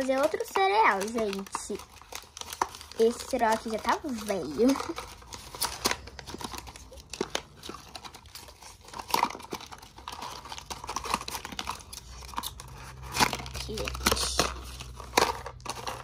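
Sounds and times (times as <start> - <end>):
paper and tape crinkling: 0.0 - 16.0.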